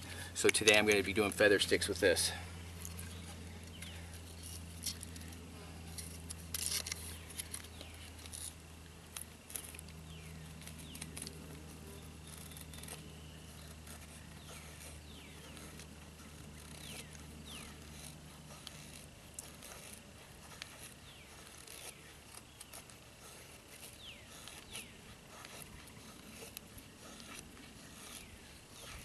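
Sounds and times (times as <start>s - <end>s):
low steady hum: 0.0s - 29.0s
knife scraping wood: 2.8s - 29.0s.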